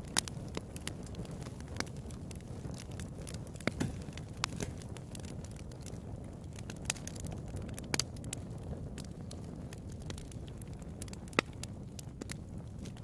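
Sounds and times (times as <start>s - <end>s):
low steady fire rumble: 0.0s - 13.0s
wood fire crackling and popping: 0.0s - 13.0s.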